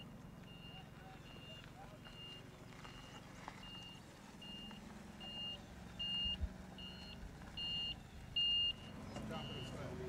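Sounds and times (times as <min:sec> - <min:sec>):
backup alarm beeping: 0:00.0 - 0:09.8
forklift engine hum: 0:00.0 - 0:10.0.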